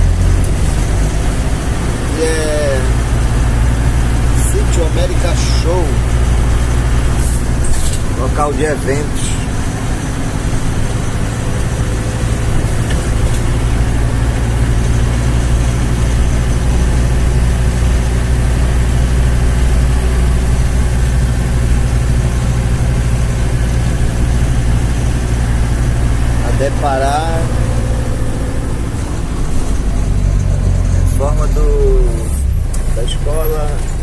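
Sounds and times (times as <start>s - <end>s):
road noise: 0.0s - 34.0s
vehicle engine humming: 0.0s - 34.0s.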